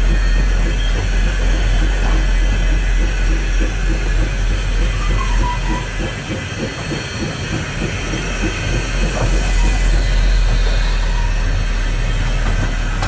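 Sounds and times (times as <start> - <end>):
steam hissing: 0.0 - 13.0
steam train rumbling: 0.0 - 13.0.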